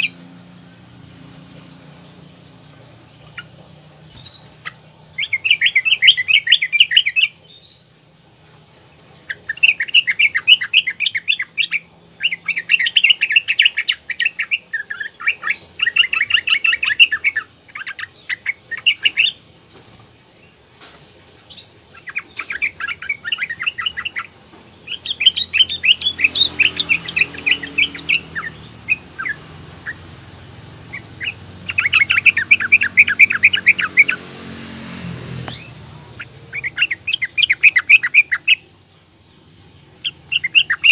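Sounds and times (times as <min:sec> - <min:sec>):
bird singing rapid notes: 0:00.0 - 0:08.2, 0:08.9 - 0:20.6, 0:21.5 - 0:40.9.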